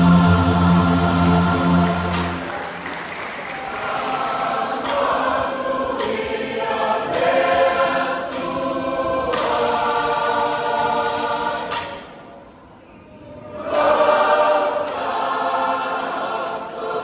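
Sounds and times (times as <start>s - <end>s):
church choir singing a hymn: 0.0s - 12.1s, 13.3s - 17.0s.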